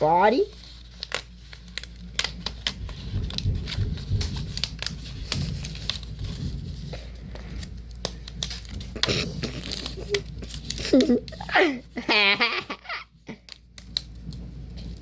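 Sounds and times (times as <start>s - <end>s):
paper crinkling and tearing: 0.0s - 15.0s.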